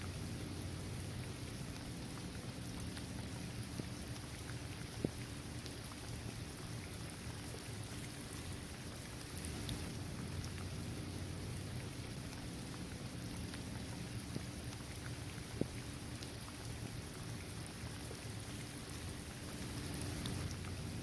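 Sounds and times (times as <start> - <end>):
rain pattering on pavement: 0.0 - 21.0
water drips: 0.0 - 21.0.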